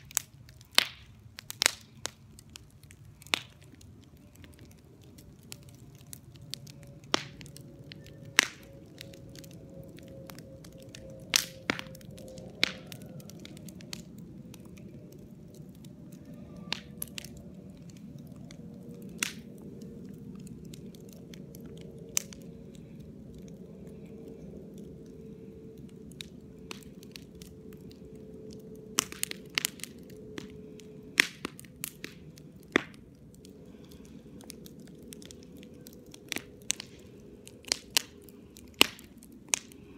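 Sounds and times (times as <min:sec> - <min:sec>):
firecrackers cracking: 0:00.0 - 0:15.2, 0:16.1 - 0:23.0, 0:26.1 - 0:39.9
low background hum: 0:00.0 - 0:39.9.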